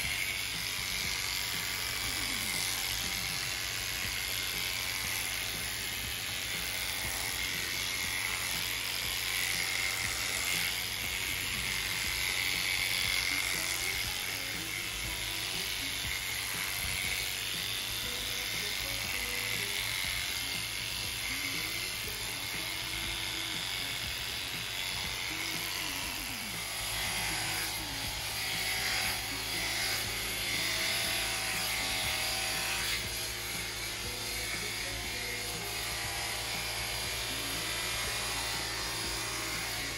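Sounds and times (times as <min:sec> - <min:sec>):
electric clippers buzzing: 0:00.0 - 0:39.9
faint background music: 0:00.0 - 0:39.9.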